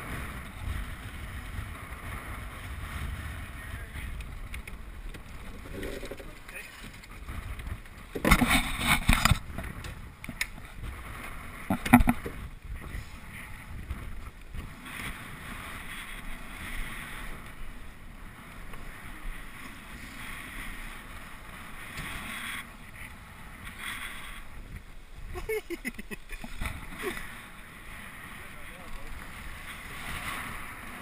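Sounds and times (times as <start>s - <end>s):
water rushing along hull: 0.0s - 31.0s.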